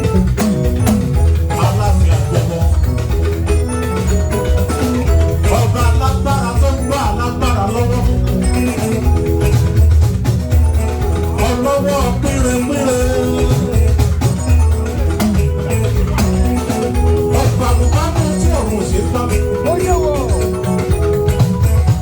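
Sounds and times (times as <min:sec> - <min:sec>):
upbeat praise music: 0:00.0 - 0:22.0.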